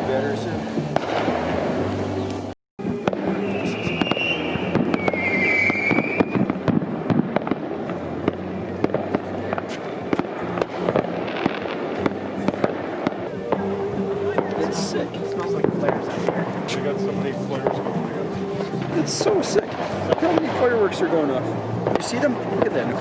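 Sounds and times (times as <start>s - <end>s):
high whistling firework: 0.0s - 23.0s
fireworks popping and banging: 0.9s - 23.0s.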